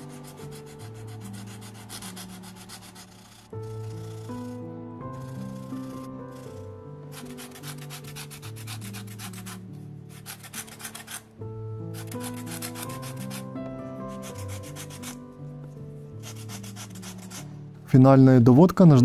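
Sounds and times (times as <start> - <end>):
sanding cork by hand: 0.0 - 11.3, 11.9 - 15.3, 16.2 - 17.6
soft background music: 0.0 - 19.0.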